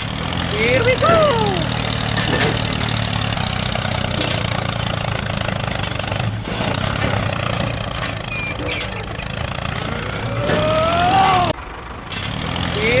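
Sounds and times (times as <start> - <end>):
tractor engine idling with rattle: 0.0 - 13.0.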